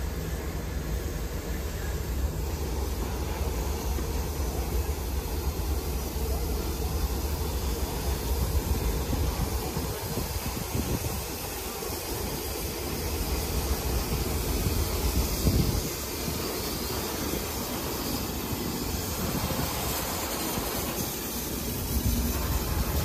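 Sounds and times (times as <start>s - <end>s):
steam hiss: 0.0s - 23.0s
steam locomotive rumbling: 0.0s - 23.0s.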